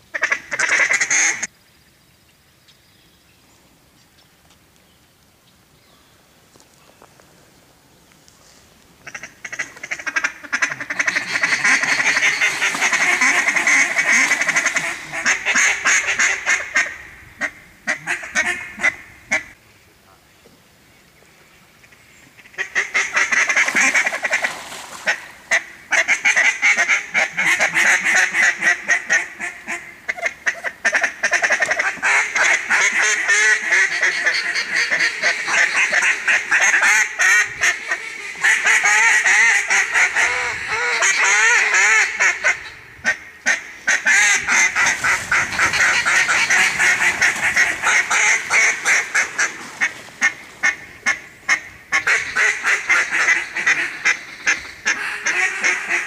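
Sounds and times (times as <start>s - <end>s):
duck calls quacking: 0.1s - 1.5s, 9.0s - 19.6s, 22.4s - 56.0s.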